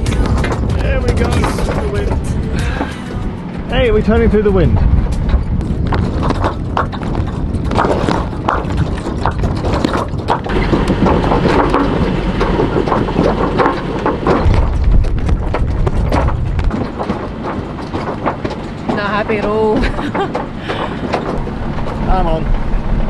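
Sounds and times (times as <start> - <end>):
sails and rigging flapping: 0.0 - 23.0
wind buffeting microphone: 0.0 - 23.0.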